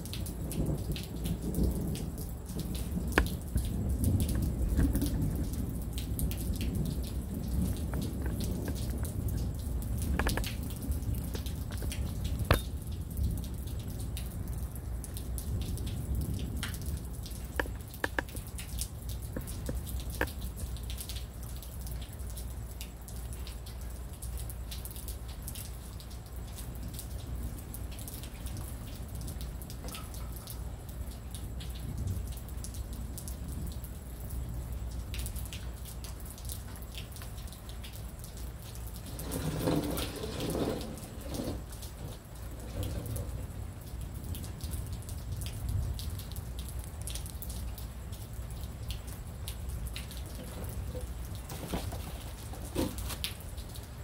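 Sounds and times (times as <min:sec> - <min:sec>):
raindrops tapping: 0:00.0 - 0:54.0.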